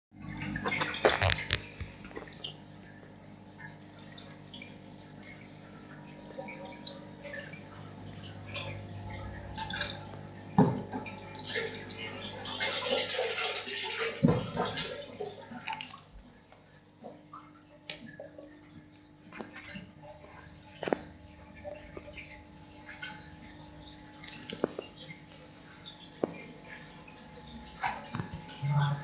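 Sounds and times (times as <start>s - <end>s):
low hum of aquarium equipment: 0.2s - 29.0s
water splashing and dripping: 0.2s - 29.0s.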